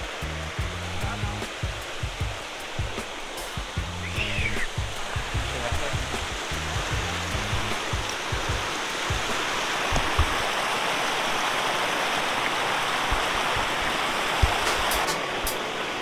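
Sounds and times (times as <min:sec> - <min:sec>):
stream pouring over rocks: 0:00.0 - 0:16.0
waterfall rushing: 0:00.0 - 0:16.0.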